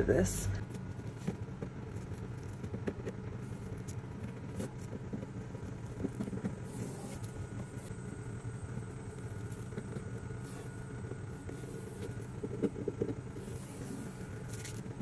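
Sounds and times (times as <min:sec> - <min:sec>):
low background rumble: 0:00.0 - 0:15.0
masking tape peeling crackles: 0:00.7 - 0:07.9, 0:09.1 - 0:12.6, 0:13.3 - 0:15.0.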